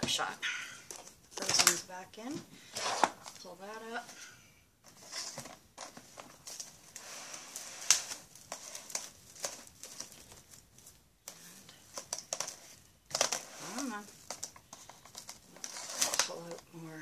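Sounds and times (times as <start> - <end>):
cling wrap crinkling and rustling: 0.0 - 4.2, 4.8 - 17.0.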